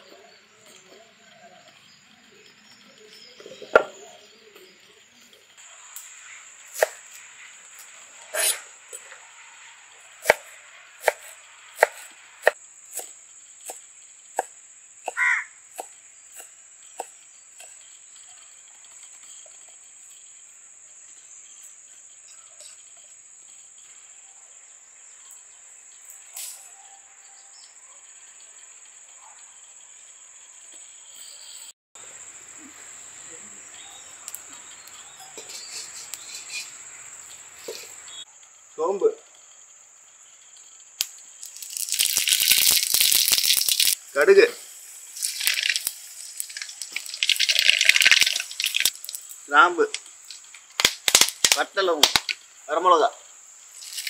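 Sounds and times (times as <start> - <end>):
cricket trill: 0.0 - 54.0.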